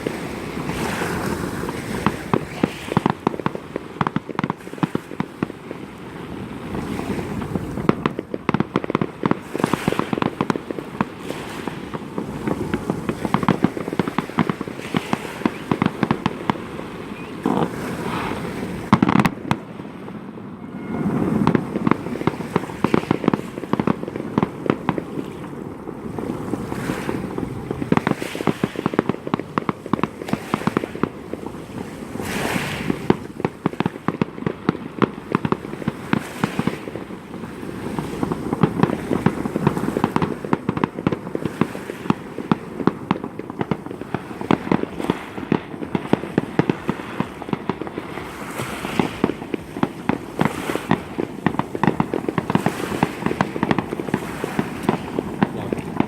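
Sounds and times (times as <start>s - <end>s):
fireworks bangs and crackles: 0.0s - 56.0s
loud firework blasts: 0.0s - 56.0s.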